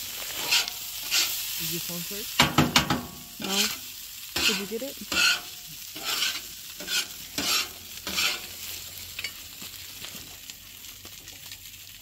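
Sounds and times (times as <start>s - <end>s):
stirring strokes in pan: 0.0s - 10.6s
food sizzling in a pan: 0.0s - 12.0s.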